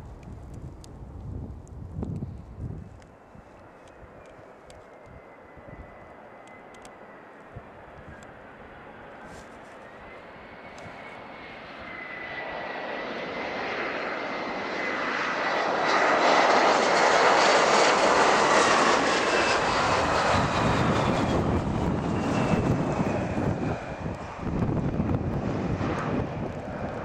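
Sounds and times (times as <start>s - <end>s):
jet engines whining overhead: 0.0s - 27.0s.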